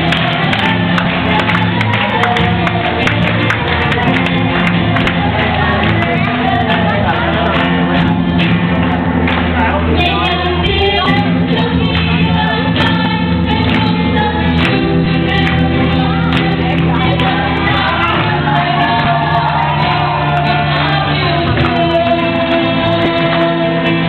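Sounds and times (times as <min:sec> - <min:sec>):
loud music with singing and beat: 0:00.0 - 0:24.0.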